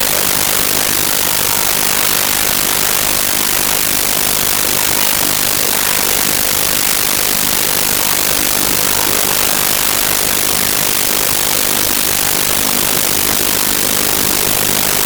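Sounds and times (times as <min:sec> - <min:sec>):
loud static hiss: 0:00.0 - 0:15.0.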